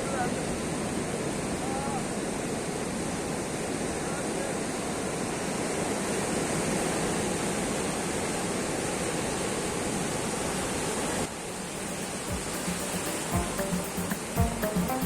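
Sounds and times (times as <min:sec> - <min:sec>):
sea surf washing ashore: 0:00.0 - 0:15.0.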